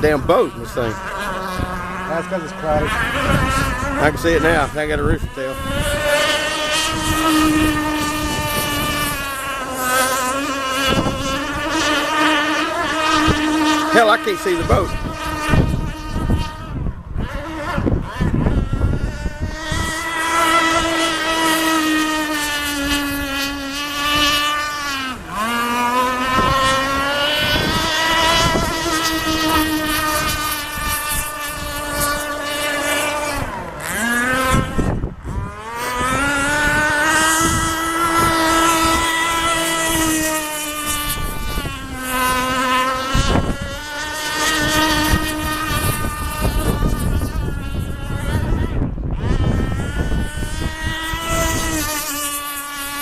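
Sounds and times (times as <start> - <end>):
small two-stroke boat engine whining: 0.0 - 53.0.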